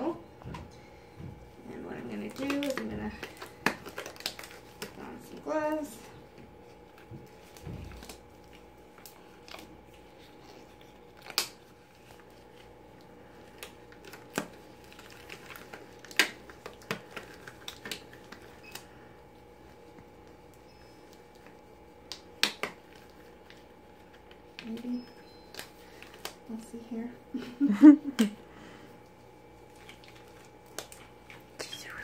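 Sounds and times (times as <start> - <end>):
rubber gloves rustling and snapping: 1.2 - 26.8, 28.0 - 32.0.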